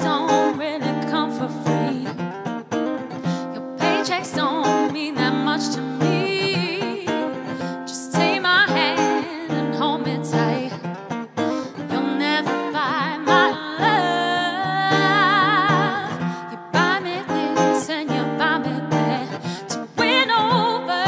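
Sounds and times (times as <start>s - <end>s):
woman singing with vibrato: 0.0s - 2.3s, 3.2s - 21.0s
acoustic guitar: 0.0s - 21.0s.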